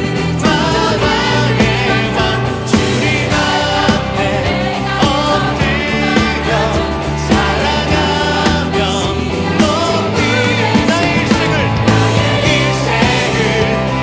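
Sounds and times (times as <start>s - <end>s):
instrumental accompaniment with beat: 0.0s - 14.0s
worship song sung by mixed voices: 0.0s - 14.0s.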